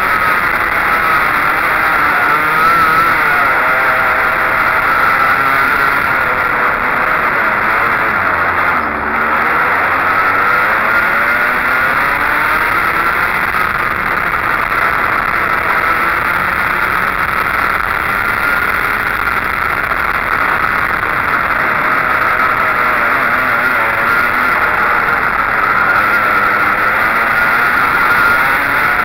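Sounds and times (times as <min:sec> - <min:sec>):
go-kart engine at high revs: 0:00.0 - 0:29.0.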